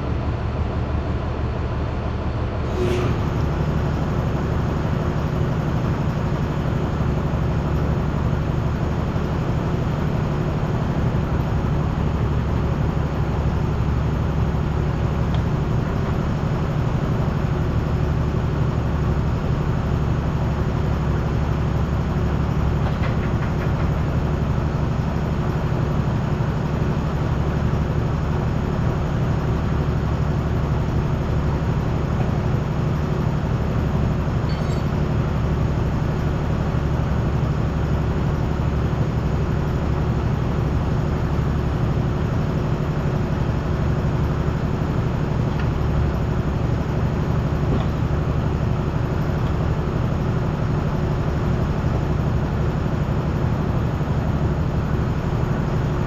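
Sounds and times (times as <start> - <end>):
low machine drone: 0.0 - 56.0.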